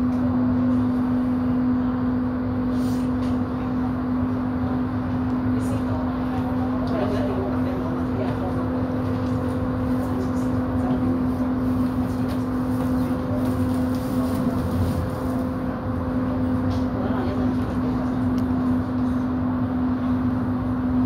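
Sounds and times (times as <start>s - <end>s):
train running on track: 0.0s - 21.0s.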